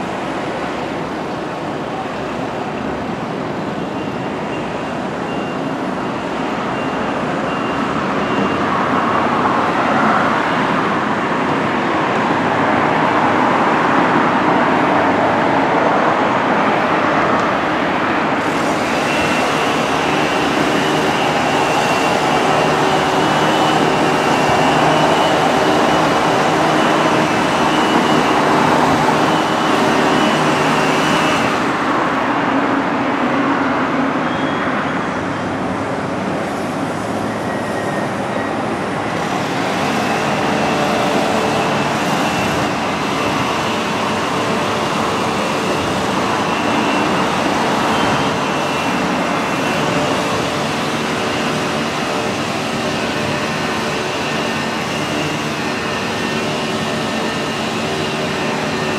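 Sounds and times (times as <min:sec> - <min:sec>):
high steady whine: 0:00.0 - 0:58.9
traffic rumble: 0:00.0 - 0:58.9.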